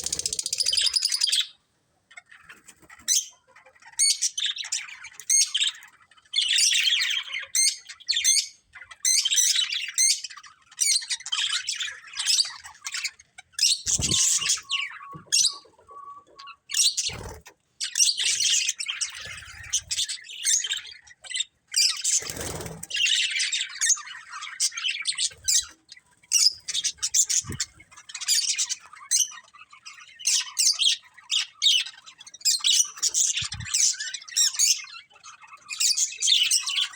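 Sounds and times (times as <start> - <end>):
budgerigars chattering: 0.0 - 36.9.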